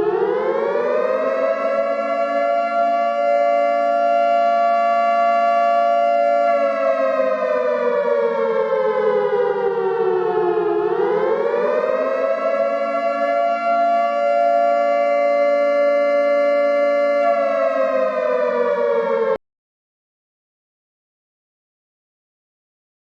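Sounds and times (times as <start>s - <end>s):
civil defense siren chord: 0.0s - 19.4s.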